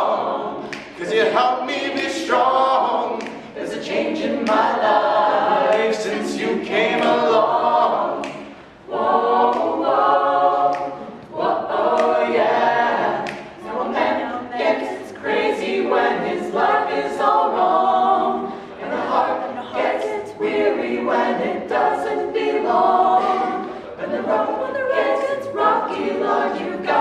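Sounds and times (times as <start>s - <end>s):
a cappella group singing: 0.0s - 27.0s.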